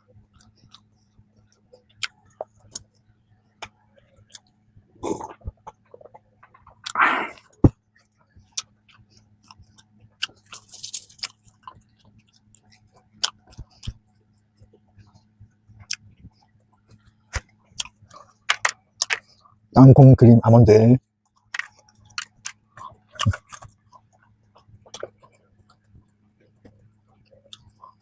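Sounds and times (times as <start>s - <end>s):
faint low hum: 0.0s - 28.0s
chewing bread: 0.1s - 19.7s, 21.1s - 28.0s.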